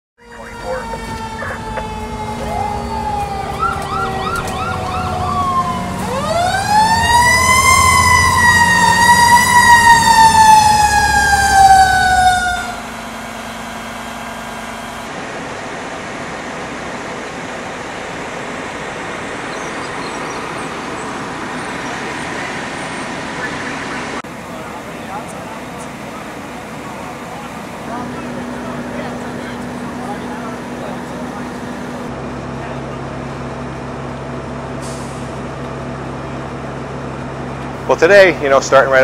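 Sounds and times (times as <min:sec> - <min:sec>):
fire engine siren wailing: 0:00.2 - 0:17.0, 0:18.6 - 0:39.0
outdoor street noise: 0:00.2 - 0:39.0.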